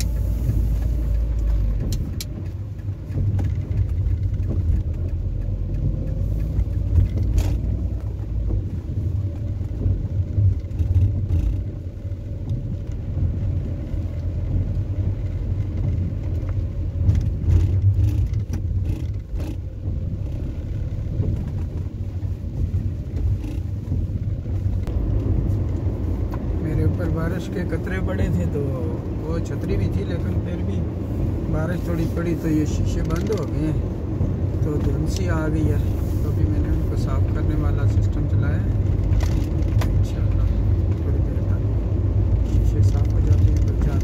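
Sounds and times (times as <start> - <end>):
car engine and tyres rumbling: 0.0 - 44.0.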